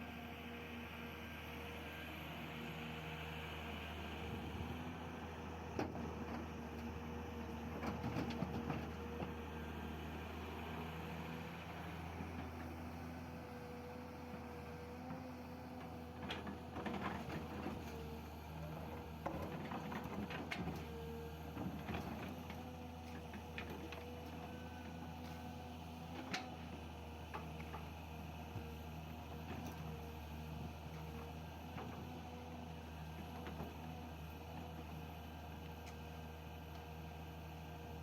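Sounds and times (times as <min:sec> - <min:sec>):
excavator diesel engine running: 0:00.2 - 0:38.0.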